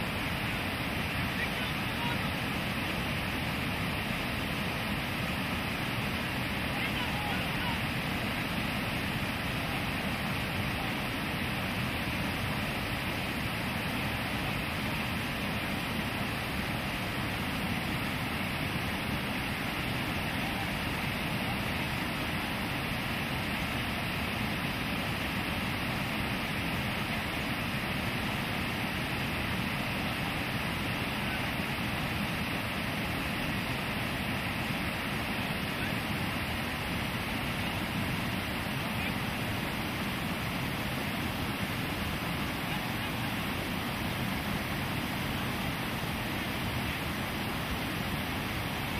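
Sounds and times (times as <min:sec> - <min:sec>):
river rapids rushing: 0:00.0 - 0:48.9.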